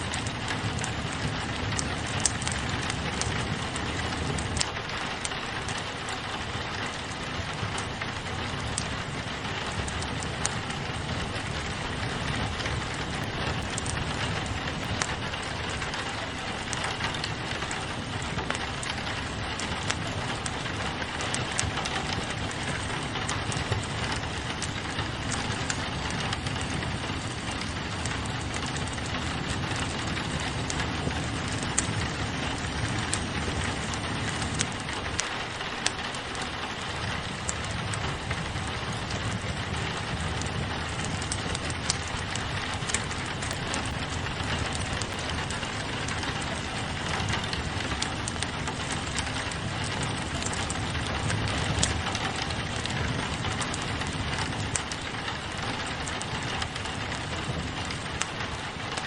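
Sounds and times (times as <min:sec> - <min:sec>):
rain on a window: 0:00.0 - 0:59.0
wood fire crackling: 0:00.0 - 0:59.0.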